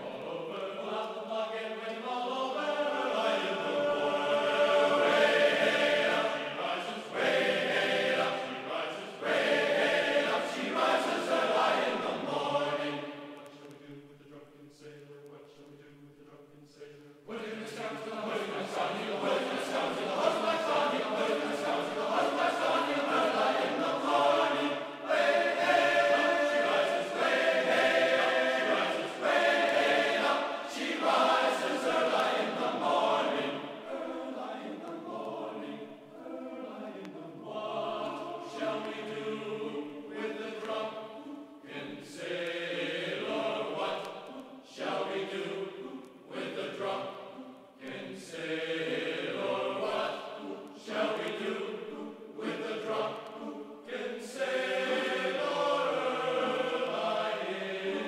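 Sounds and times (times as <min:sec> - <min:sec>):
choir-like sustained singing: 0:00.0 - 0:58.0.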